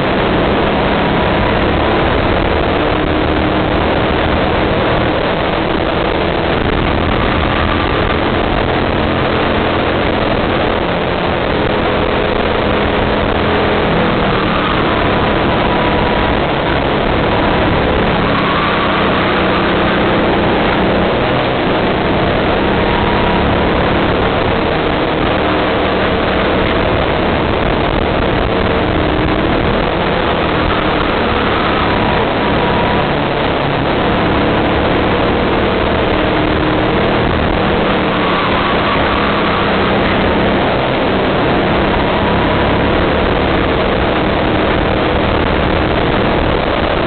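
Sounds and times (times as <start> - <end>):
kart engine running loudly: 0.0 - 47.0.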